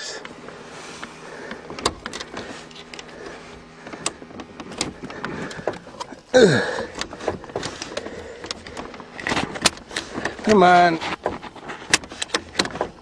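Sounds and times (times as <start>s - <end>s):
starter motor clicks: 0.2s - 13.0s
starter motor whirring: 0.2s - 13.0s.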